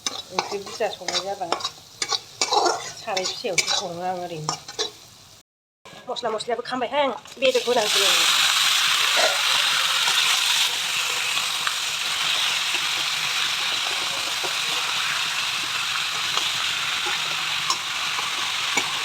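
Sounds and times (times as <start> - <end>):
meat sizzling in oil: 0.0 - 5.4, 7.5 - 19.0.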